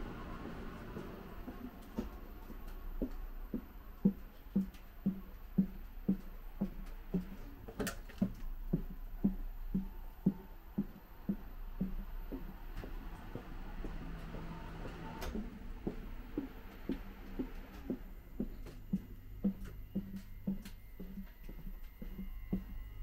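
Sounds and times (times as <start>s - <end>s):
footsteps in train aisle: 0.0s - 23.0s
steady low hum: 0.0s - 23.0s.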